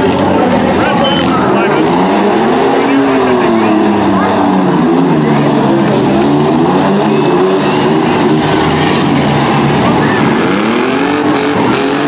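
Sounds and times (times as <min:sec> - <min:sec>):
engine revving: 0:00.0 - 0:12.0
truck engines running: 0:00.0 - 0:12.0.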